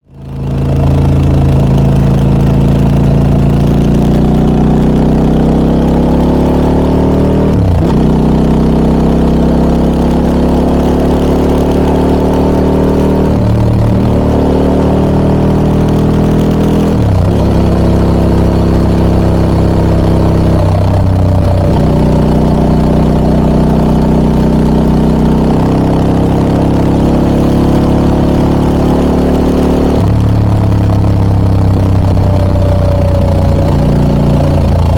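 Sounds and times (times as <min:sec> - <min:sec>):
motorcycle engine shifting through gears: 0:00.1 - 0:34.9.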